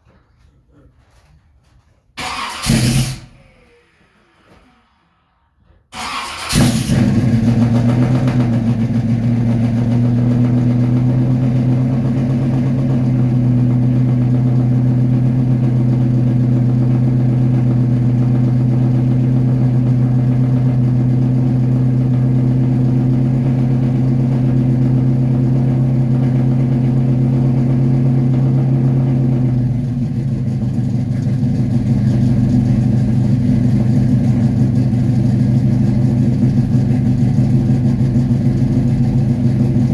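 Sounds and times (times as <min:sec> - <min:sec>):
car engine fast idle: 0:02.2 - 0:04.6, 0:06.0 - 0:39.9
car engine starting: 0:02.2 - 0:05.3, 0:05.9 - 0:39.9.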